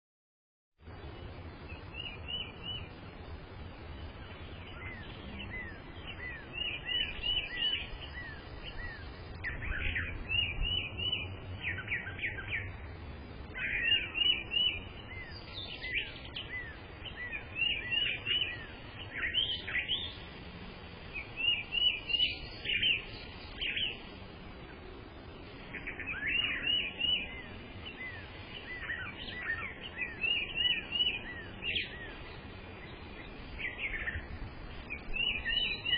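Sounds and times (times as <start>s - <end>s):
songbirds singing: 0.8s - 35.9s.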